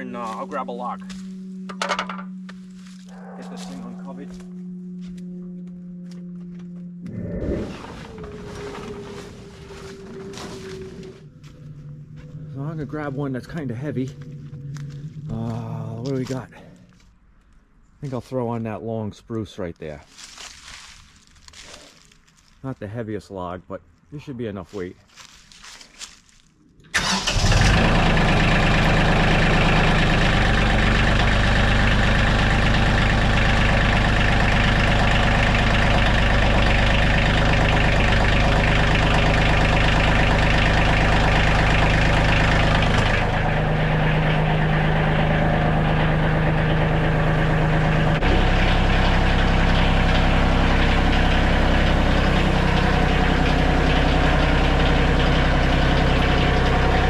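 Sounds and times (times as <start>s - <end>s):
tractor diesel engine running: 0.0s - 17.1s, 26.9s - 57.0s.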